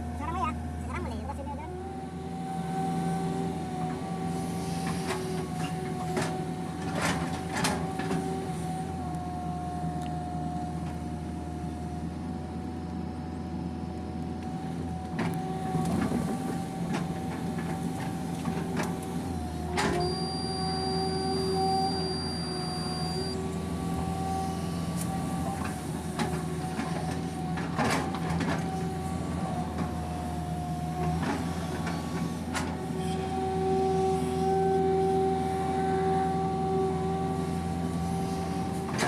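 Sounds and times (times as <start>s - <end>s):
excavator engine hum: 0.0s - 39.0s.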